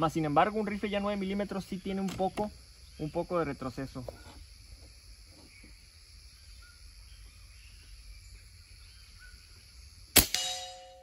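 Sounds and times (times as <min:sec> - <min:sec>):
faint chirps: 0:00.0 - 0:10.1.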